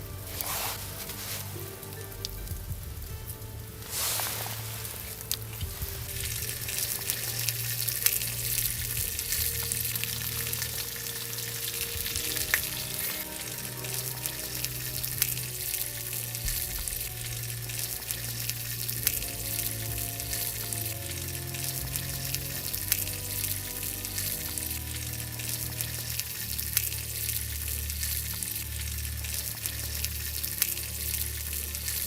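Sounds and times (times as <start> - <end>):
food sizzling in a hot pan: 0.0 - 2.4, 3.8 - 32.0.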